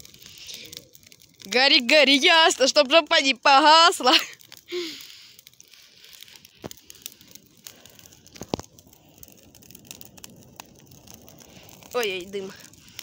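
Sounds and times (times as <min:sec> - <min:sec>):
bonfire crackling: 0:00.0 - 0:13.0
fire hiss: 0:00.0 - 0:13.0.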